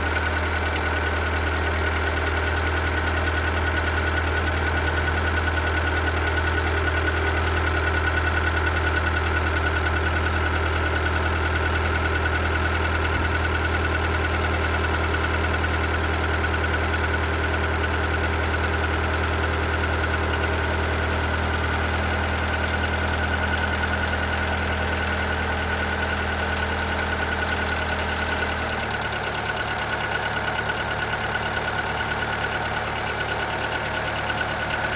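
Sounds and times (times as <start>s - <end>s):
car engine idling: 0.0s - 34.9s
engine knocking: 0.0s - 34.9s.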